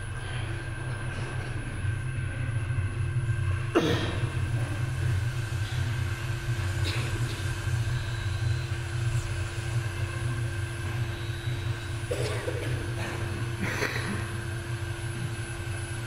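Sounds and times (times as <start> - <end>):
constant hum tone: 0.0 - 16.0.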